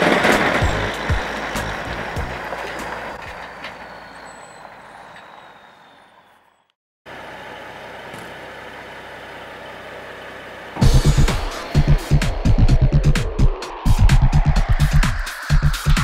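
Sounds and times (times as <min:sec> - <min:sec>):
truck engine running: 0:00.0 - 0:06.0, 0:07.1 - 0:16.0.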